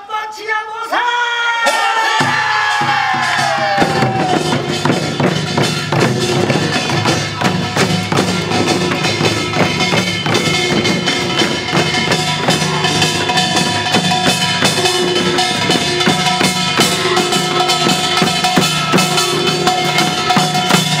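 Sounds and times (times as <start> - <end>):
hand drums: 1.7 - 21.0
ringing metal percussion: 1.8 - 21.0.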